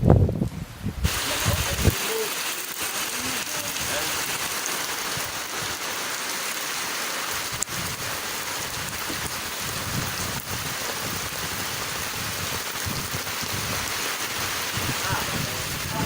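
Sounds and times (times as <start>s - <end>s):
heavy rain pouring: 1.0s - 16.0s.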